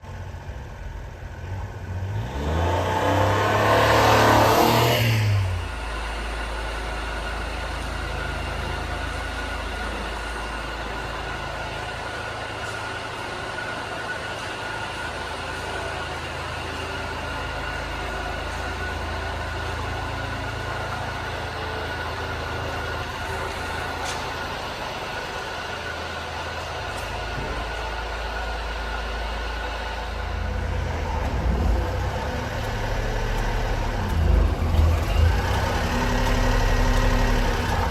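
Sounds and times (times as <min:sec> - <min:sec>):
small engine idling: 0:00.0 - 0:37.9.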